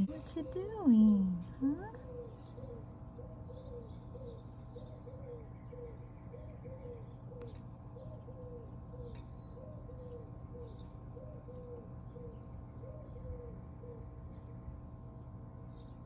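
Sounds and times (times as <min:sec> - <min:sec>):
small birds chirping: 0:00.0 - 0:16.0
dove cooing: 0:00.1 - 0:14.2.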